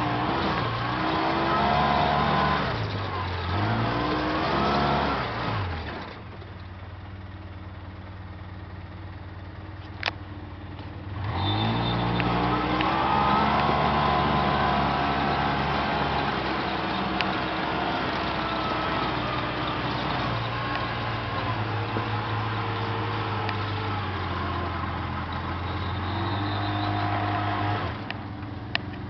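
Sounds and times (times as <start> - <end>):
vehicle engine revving: 0.0 - 6.1, 11.1 - 29.0.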